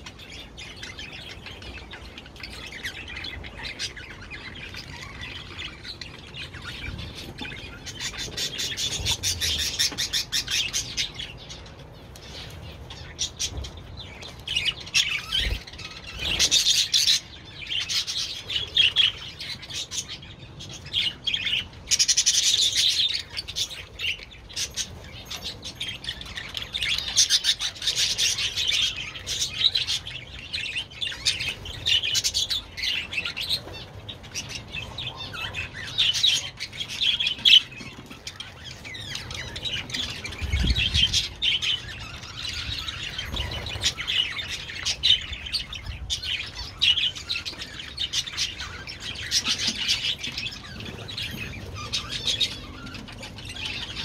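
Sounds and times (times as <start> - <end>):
budgerigars chirping and chattering: 0.0 - 54.0.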